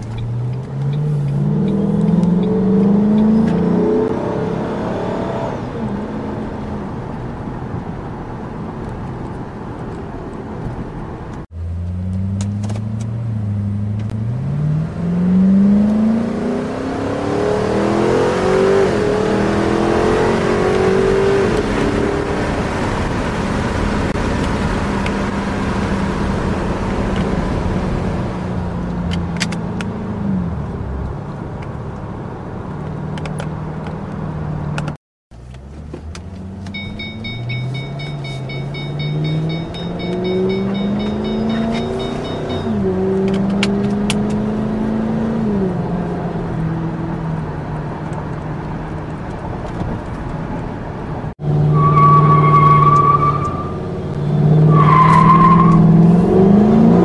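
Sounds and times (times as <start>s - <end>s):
car engine accelerating: 0.0s - 7.1s, 11.1s - 57.0s.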